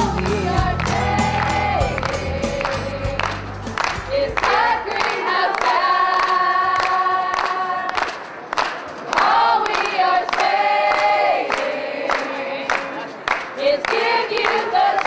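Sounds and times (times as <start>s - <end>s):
group singing long held notes: 0.0s - 8.3s, 9.1s - 15.0s.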